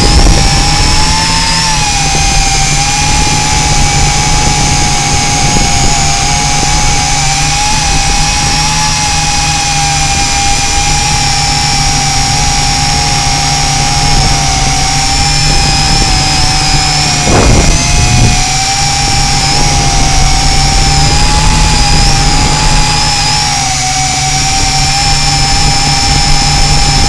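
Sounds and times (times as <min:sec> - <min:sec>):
drone propellers whining: 0:00.0 - 0:27.0
wind rumbling on microphone: 0:00.0 - 0:27.0.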